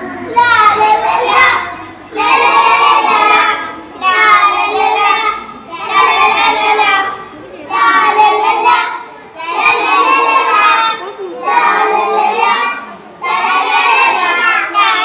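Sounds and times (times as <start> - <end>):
children singing into a microphone: 0.0 - 15.0.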